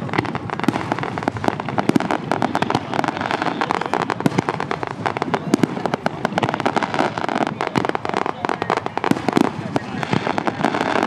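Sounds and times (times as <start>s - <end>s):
fireworks crackling and popping: 0.0s - 11.0s
loud firework bangs: 0.0s - 11.0s.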